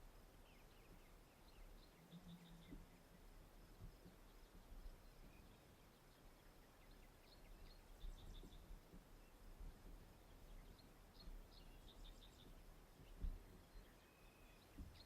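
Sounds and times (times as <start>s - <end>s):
faint bird chirps: 0.0s - 15.0s
wind rumble on microphone: 0.0s - 15.0s.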